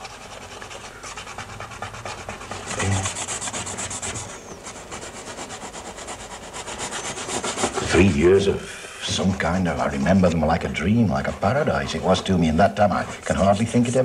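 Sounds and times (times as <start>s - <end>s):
hand rubbing a surface: 0.0s - 14.0s.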